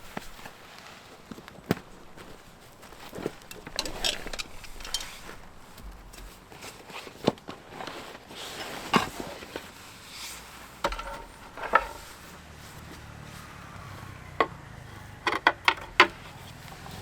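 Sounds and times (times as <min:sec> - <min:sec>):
rustling and handling noise: 0:00.0 - 0:14.3, 0:15.3 - 0:17.0.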